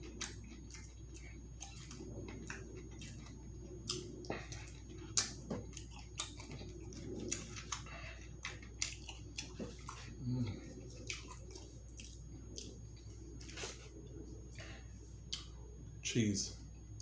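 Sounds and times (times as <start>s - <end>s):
chewing with wet mouth smacks: 0.0s - 15.6s
low steady hum: 0.0s - 17.0s.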